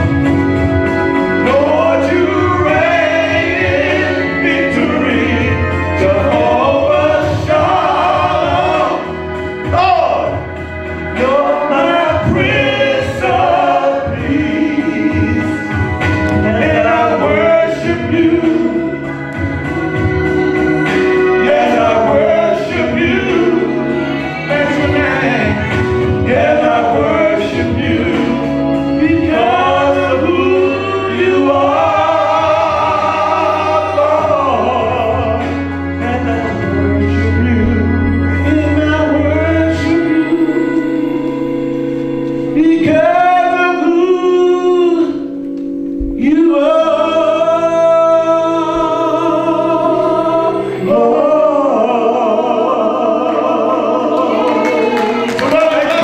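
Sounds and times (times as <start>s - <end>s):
two men singing: 0.0s - 41.5s, 42.5s - 45.3s, 46.0s - 56.0s
instrumental accompaniment chords: 0.0s - 56.0s.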